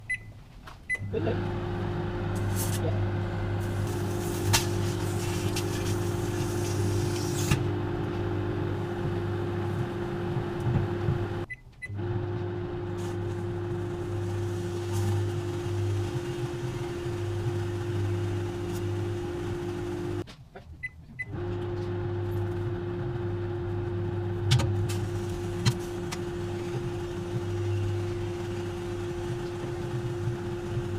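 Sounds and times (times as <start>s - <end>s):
microwave oven humming: 0.9s - 20.2s, 21.2s - 30.9s.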